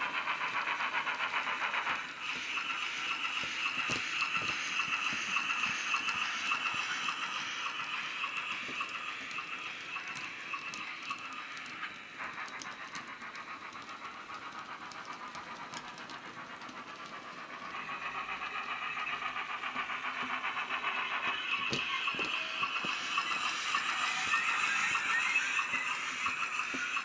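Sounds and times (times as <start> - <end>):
model steam locomotive chuffing: 0.0 - 27.0.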